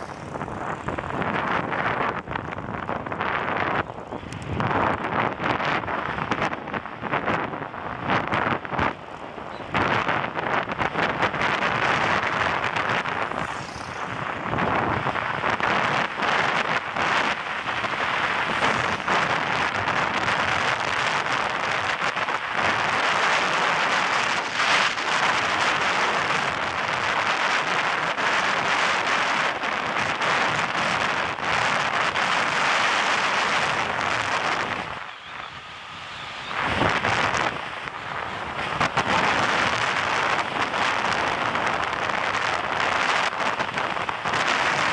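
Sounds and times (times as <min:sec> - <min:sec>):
bicycle rolling on asphalt: 0:00.0 - 0:44.9
wind buffeting microphone: 0:00.0 - 0:44.9.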